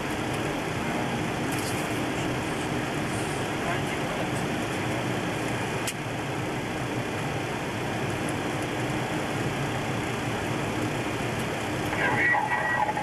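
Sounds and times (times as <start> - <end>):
cockpit air and engine noise: 0.0 - 13.0.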